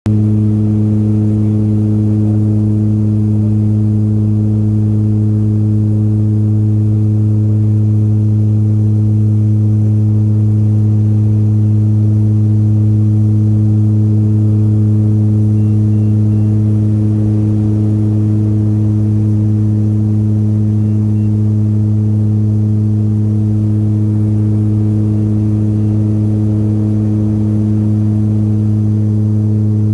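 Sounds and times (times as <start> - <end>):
aircraft engine drone: 0.1 - 29.9.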